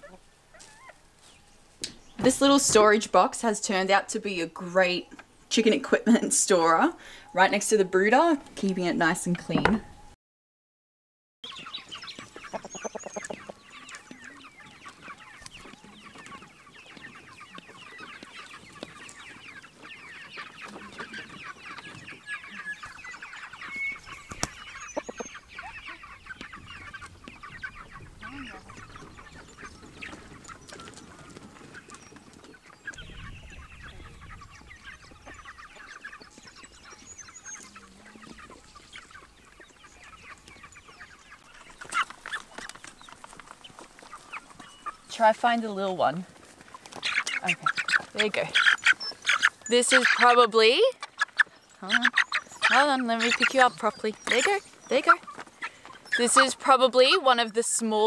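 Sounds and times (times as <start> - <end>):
chickens peeping and clucking: 0.0 - 10.2, 11.4 - 58.0.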